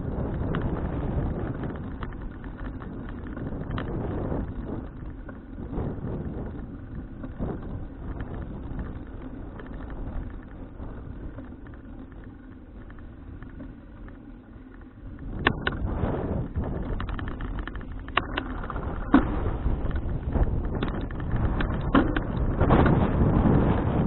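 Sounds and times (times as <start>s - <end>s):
road rumble: 0.0s - 24.0s
small rattles: 0.0s - 24.0s
wind buffeting microphone: 0.0s - 24.0s.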